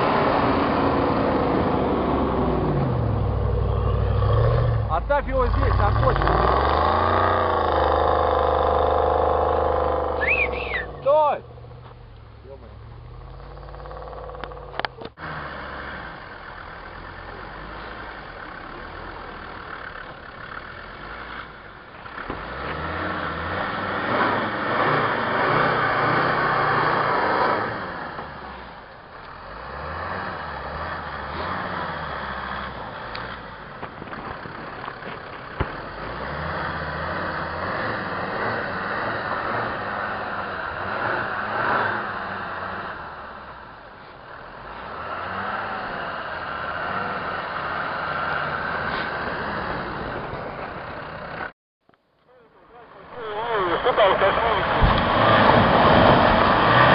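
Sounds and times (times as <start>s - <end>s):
truck engine revving: 0.0s - 51.5s, 52.7s - 56.9s.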